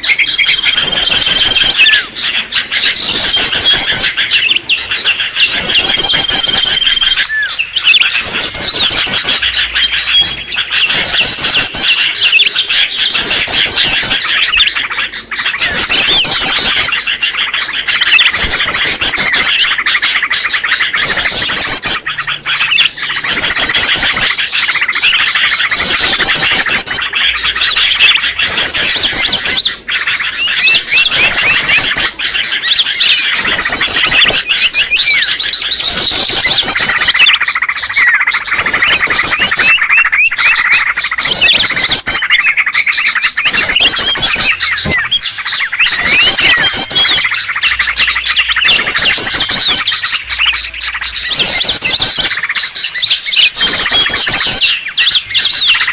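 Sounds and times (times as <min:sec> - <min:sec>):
birds chattering and trilling: 0:00.0 - 0:55.9.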